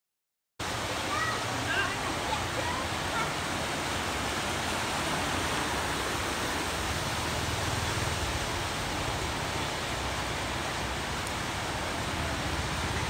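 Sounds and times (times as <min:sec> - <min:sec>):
floodwater running: 0:00.6 - 0:13.0
rain: 0:00.6 - 0:13.0.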